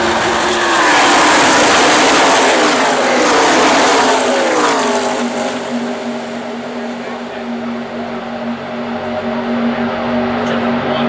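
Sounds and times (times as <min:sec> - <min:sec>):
race truck engines at full throttle: 0:00.0 - 0:11.0.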